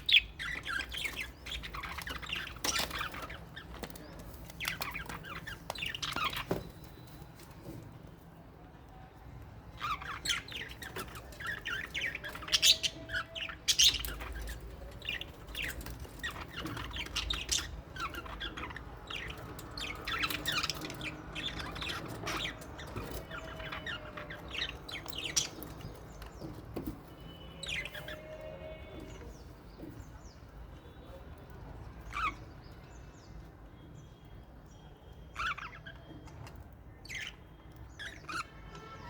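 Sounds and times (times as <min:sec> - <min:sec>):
parrots chirping and squawking: 0:00.0 - 0:08.2, 0:09.6 - 0:30.5, 0:31.6 - 0:33.6, 0:35.1 - 0:39.0.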